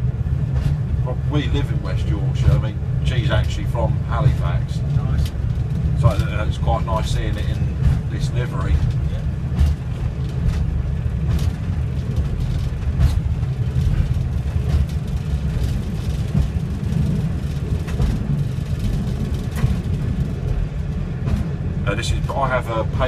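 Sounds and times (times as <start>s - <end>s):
diesel train engine rumble: 0.0s - 23.0s.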